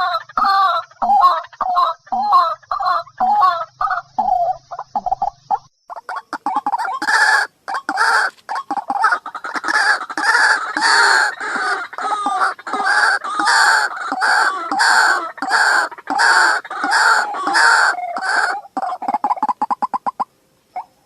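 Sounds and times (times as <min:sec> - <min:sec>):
bird harsh repeated call: 0:00.0 - 0:21.0.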